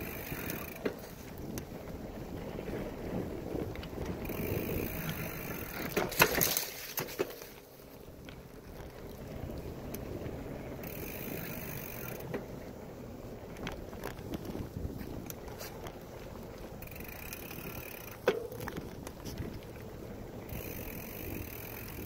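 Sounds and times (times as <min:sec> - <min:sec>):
bicycle rattles and clicks: 0:00.0 - 0:22.0
bicycle tyres rolling on dirt: 0:00.0 - 0:22.0.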